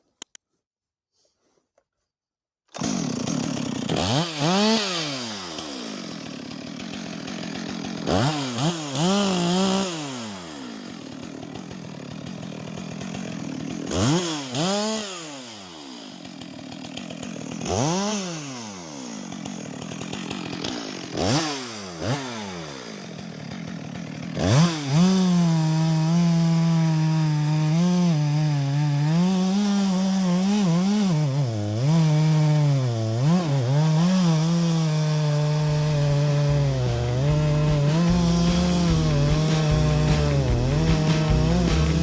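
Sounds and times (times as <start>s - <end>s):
chainsaw cutting wood: 2.7s - 42.0s.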